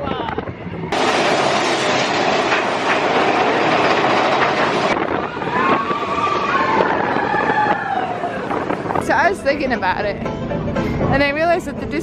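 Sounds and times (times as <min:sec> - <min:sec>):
roller coaster rattling on track: 0:00.0 - 0:10.1.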